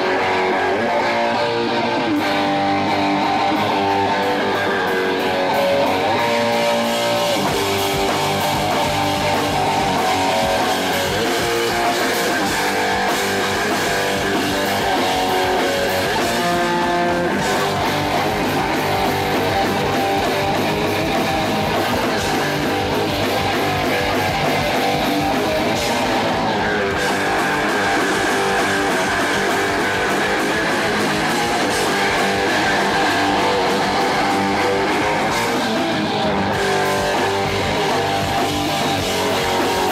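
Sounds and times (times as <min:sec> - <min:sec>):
electric guitar chords: 0:00.0 - 0:39.9
punk band playing live: 0:00.0 - 0:39.9.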